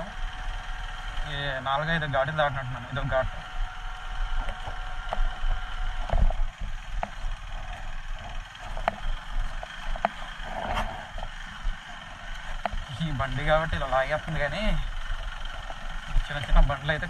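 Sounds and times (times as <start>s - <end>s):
motorcycle engine under load: 0.0s - 17.0s.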